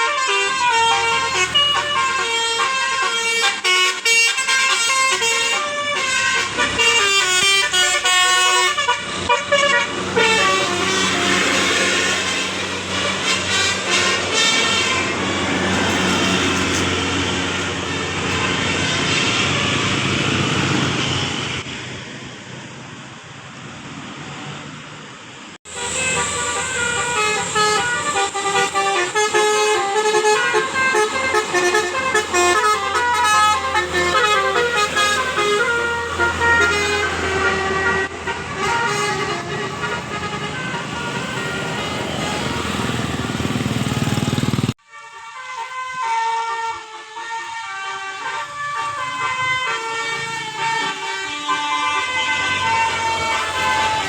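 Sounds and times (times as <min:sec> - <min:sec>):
multi-tone bus air horn tune: 0:00.0 - 0:21.6, 0:25.6 - 0:54.0
vehicle noise: 0:00.0 - 0:54.0.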